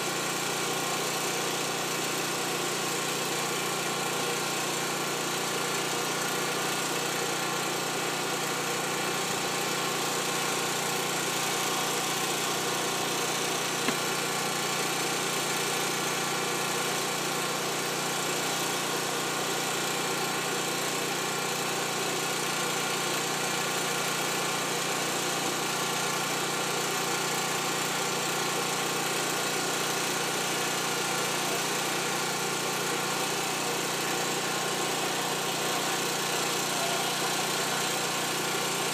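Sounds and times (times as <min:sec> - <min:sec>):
fire truck engines idling: 0:01.7 - 0:38.9.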